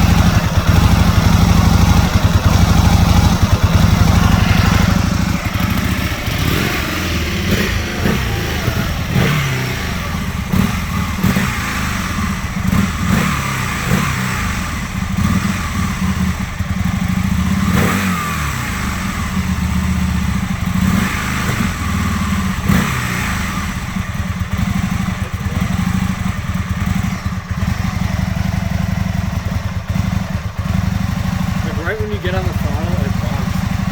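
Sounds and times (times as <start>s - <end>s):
motorcycle engine idling unevenly: 0.0s - 33.9s.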